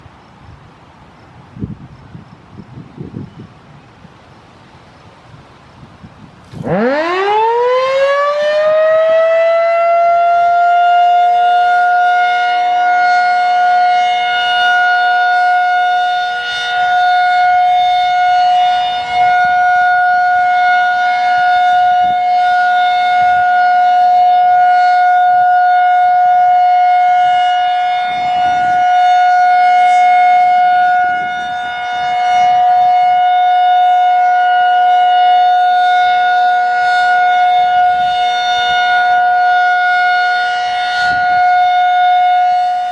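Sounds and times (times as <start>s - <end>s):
outdoor warning siren: 4.7s - 42.9s.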